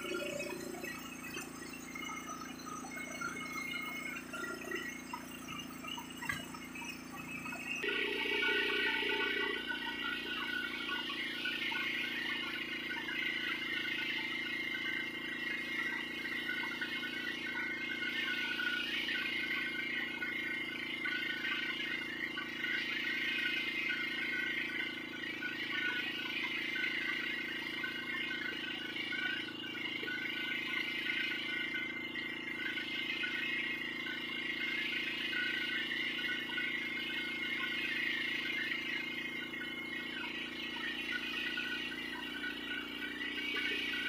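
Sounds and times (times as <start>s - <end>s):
motor idling with whine: 0.0s - 44.0s.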